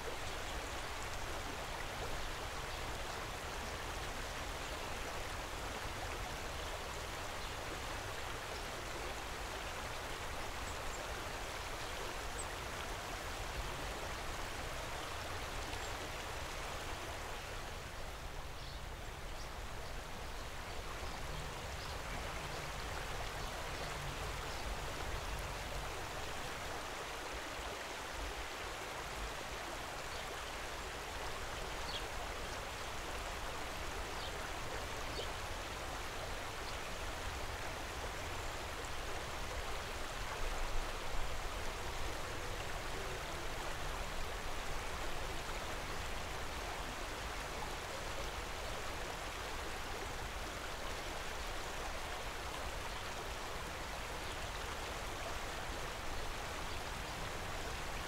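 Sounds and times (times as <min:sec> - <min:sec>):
stream rushing over cascades: 0:00.0 - 0:58.0.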